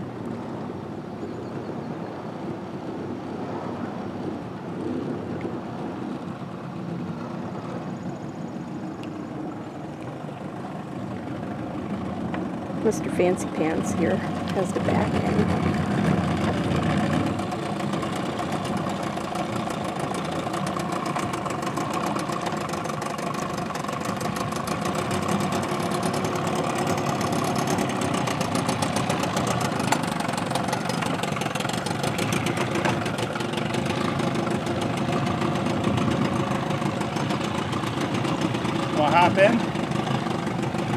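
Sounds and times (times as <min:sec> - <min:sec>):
outboard motor idling: 0:07.5 - 0:40.9.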